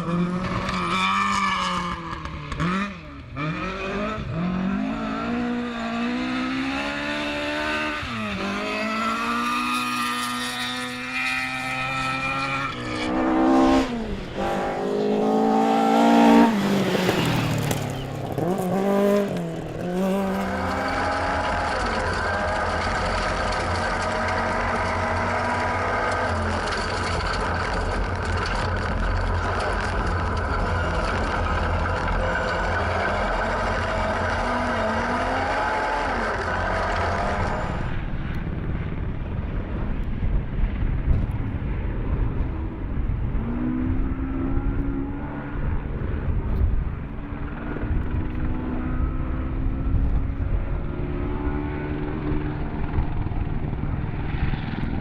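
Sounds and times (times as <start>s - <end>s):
rally car engine revving: 0.0s - 38.9s, 40.6s - 55.0s.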